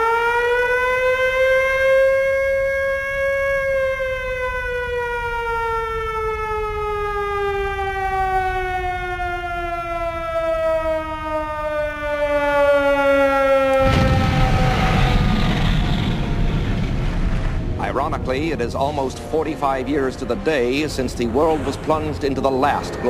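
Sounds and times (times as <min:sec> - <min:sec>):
air-raid siren winding down: 0:00.0 - 0:23.0.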